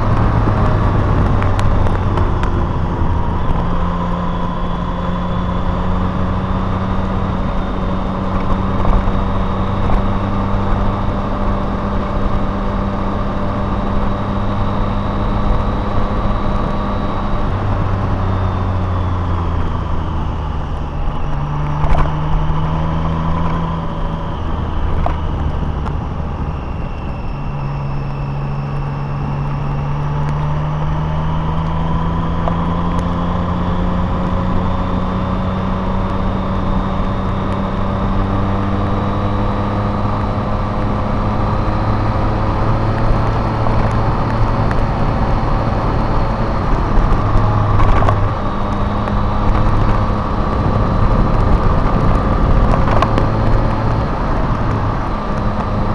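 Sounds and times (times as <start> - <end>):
car engine running: 0.0 - 55.9
road noise: 0.0 - 55.9.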